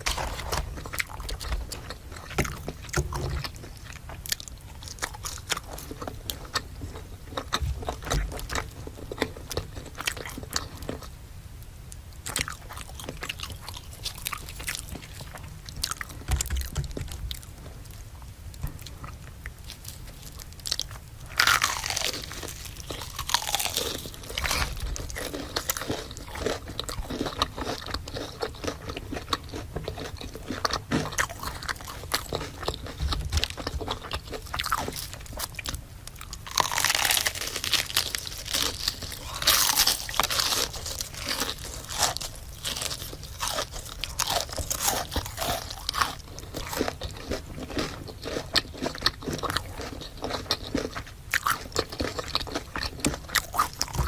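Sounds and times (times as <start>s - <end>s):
crunchy chewing: 0.0s - 11.2s, 12.0s - 54.0s.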